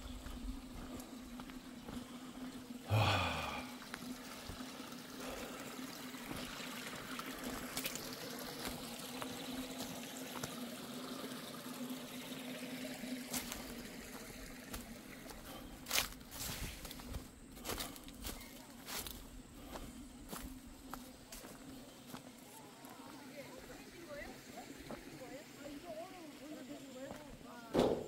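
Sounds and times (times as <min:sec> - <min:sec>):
water trickling and pouring: 0:00.0 - 0:27.6.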